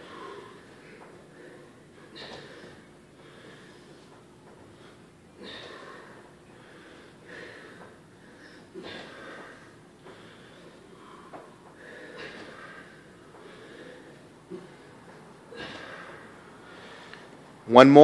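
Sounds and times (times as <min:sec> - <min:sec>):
heavy breathing from exertion: 0:00.0 - 0:18.0.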